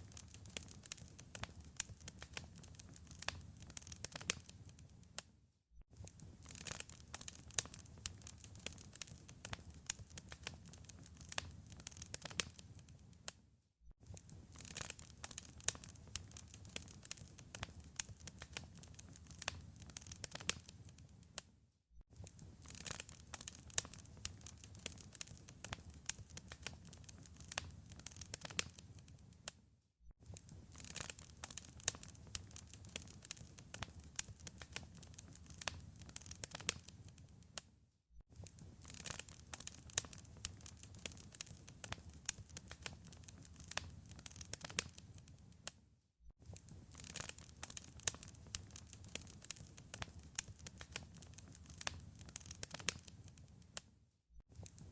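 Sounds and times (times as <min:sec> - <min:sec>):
wood fire crackling and popping: 0:00.0 - 0:05.3, 0:06.0 - 0:13.3, 0:14.0 - 0:21.4, 0:22.2 - 0:29.6, 0:30.2 - 0:37.6, 0:38.4 - 0:45.8, 0:46.4 - 0:53.8, 0:54.5 - 0:54.9.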